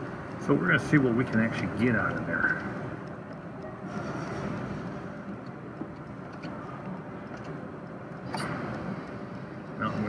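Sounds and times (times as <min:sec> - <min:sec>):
arcade background din: 0:00.0 - 0:10.0.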